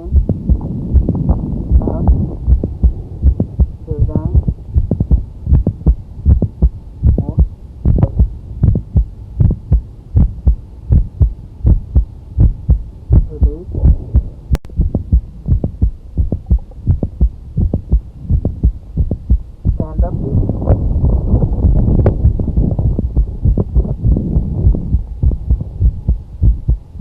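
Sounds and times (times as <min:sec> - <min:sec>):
heartbeat through stethoscope: 0:00.0 - 0:27.0.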